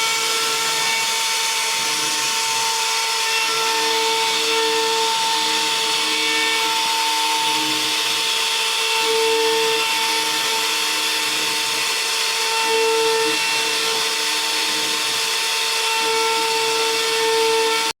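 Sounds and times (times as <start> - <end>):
router spindle whining while cutting wood: 0.0 - 18.0.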